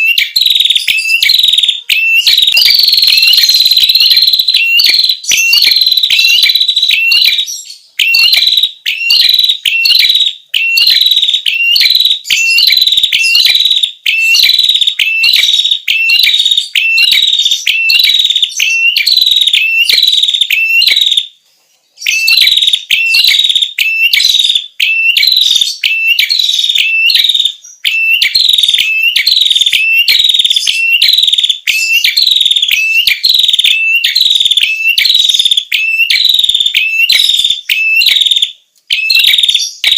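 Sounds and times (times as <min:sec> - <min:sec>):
songbird high sharp chirps: 0:00.0 - 0:21.3, 0:22.0 - 0:39.9.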